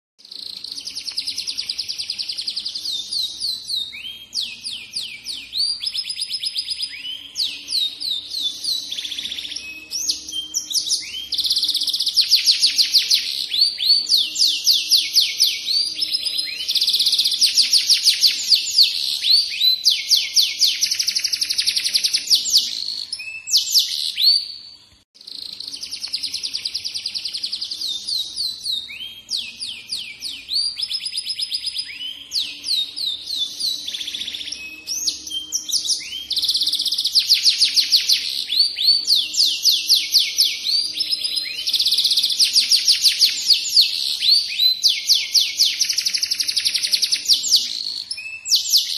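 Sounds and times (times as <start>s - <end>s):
canary singing trills: 0.2s - 48.9s.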